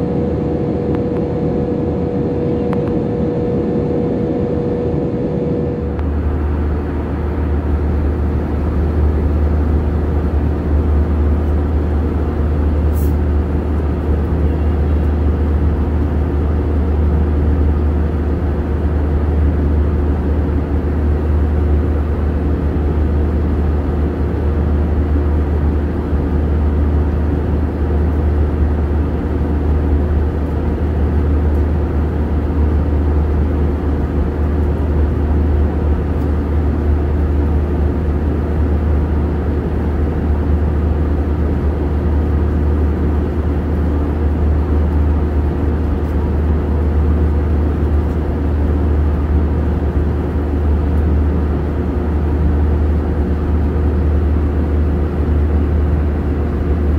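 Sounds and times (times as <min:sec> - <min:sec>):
airliner cabin drone: 0:00.0 - 0:56.9.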